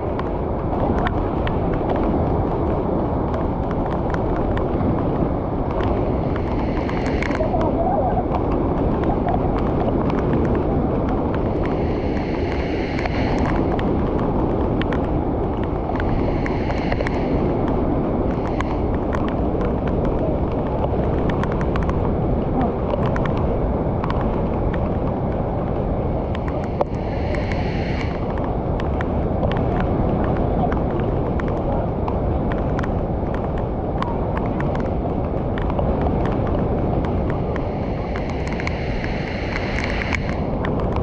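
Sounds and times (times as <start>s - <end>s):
floodwater rushing over a weir: 0.0s - 41.0s.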